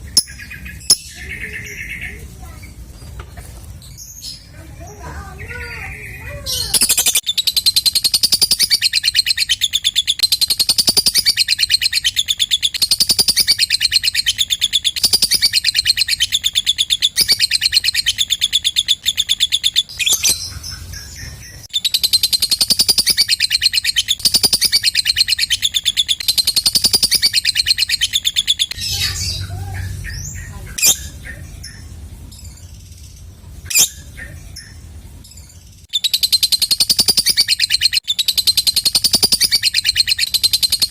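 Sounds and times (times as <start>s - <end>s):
lovebird chattering trill: 0.0s - 2.9s, 4.2s - 40.9s
bird chirps: 0.0s - 3.2s, 3.8s - 40.9s.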